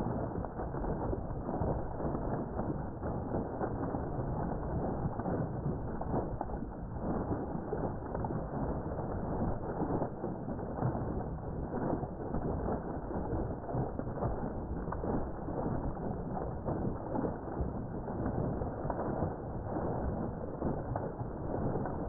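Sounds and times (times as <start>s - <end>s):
water gushing and splashing: 0.0s - 22.0s.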